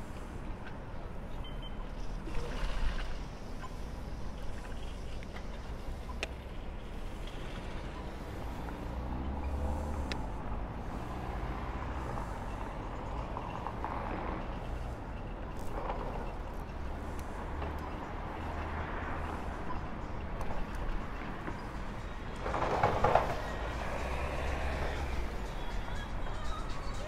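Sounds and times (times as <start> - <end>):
vehicles passing: 0.0 - 27.0
wind and road rumble: 0.0 - 27.0.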